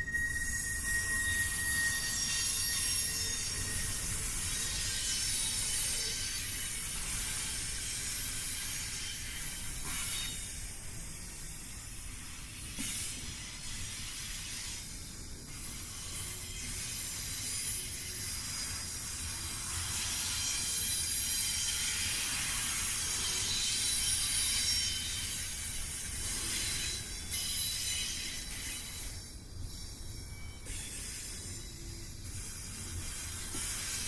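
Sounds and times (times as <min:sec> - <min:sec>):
faint high wheel squeal: 0:00.0 - 0:34.0.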